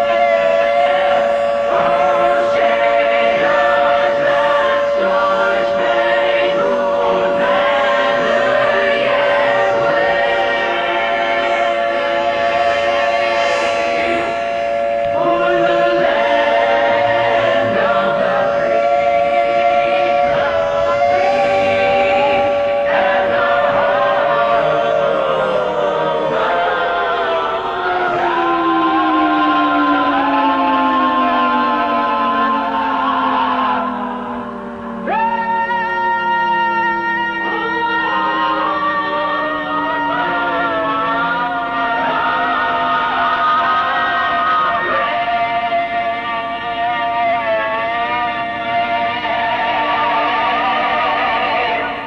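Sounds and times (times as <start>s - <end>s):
choir singing: 0.0s - 52.0s
siren-like tone: 0.0s - 52.0s.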